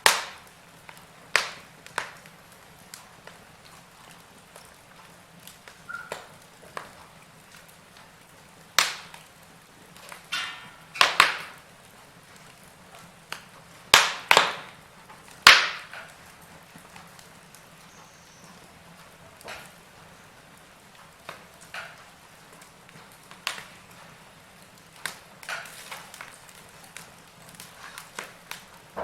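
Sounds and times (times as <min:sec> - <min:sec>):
faint steady fire hiss: 0:00.0 - 0:29.0
logs crackling and popping in fire: 0:00.0 - 0:29.0.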